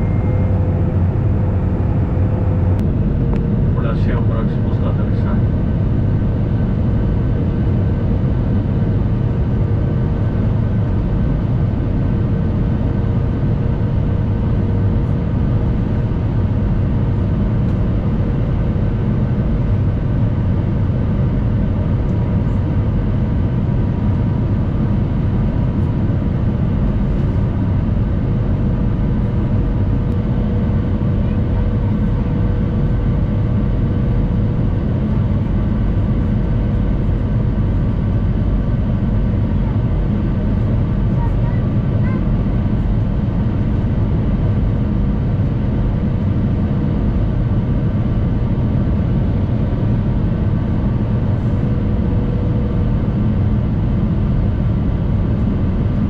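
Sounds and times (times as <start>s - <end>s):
airplane cabin rumble: 0.0s - 56.0s
faint engine tones: 0.0s - 56.0s.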